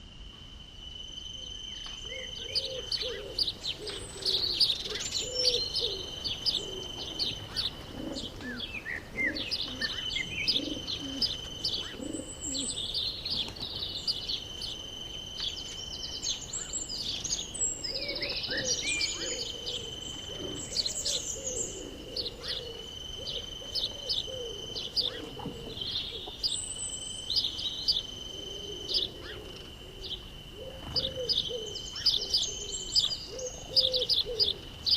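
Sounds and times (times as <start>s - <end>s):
birds chirping: 1.4s - 34.9s
doves cooing: 1.4s - 34.9s.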